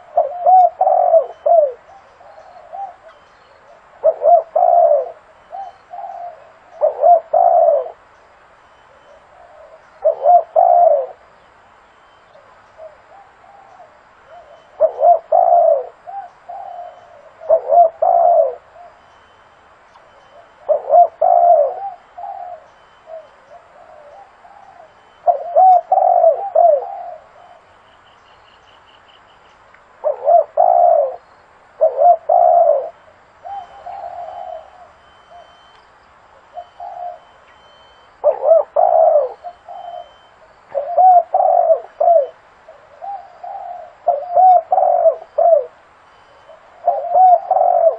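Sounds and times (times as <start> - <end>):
dove cooing: 0.0 - 8.1, 8.9 - 11.4, 12.4 - 19.4, 20.1 - 27.8, 30.0 - 35.7, 36.3 - 47.9.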